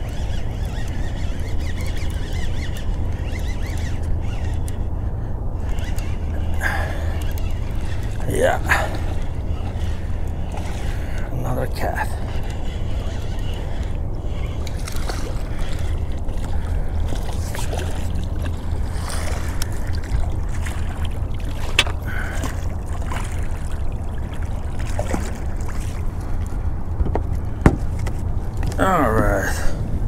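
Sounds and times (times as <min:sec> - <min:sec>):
water lapping against boat hull: 0:00.0 - 0:30.0
wind rumble on microphone: 0:00.0 - 0:30.0.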